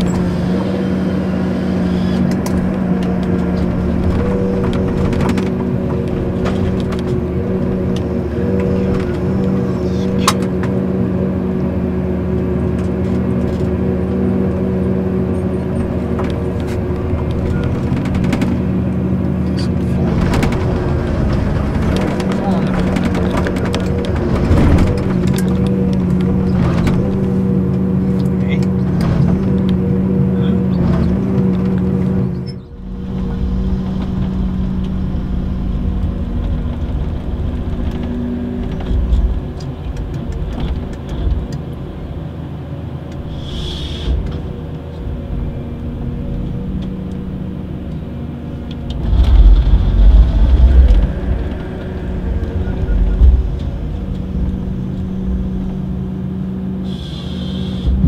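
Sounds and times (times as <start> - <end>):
engine and hydraulic hum: 0.0 - 58.0
heavy low rumbling and knocks: 2.2 - 10.9, 15.6 - 30.0, 30.7 - 42.2, 44.1 - 56.2.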